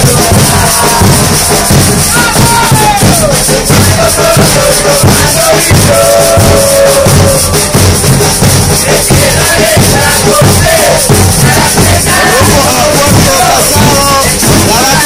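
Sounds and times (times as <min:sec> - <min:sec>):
bass drums beating: 0:00.0 - 0:15.0
cymbals crashing: 0:00.0 - 0:15.0
men chanting: 0:00.0 - 0:15.0.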